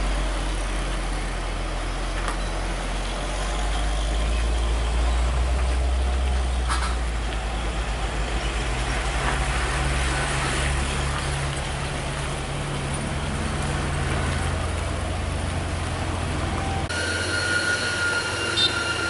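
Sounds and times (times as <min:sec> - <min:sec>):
truck diesel engine idling: 0:00.0 - 0:10.0, 0:10.8 - 0:19.0
road noise: 0:00.0 - 0:19.0.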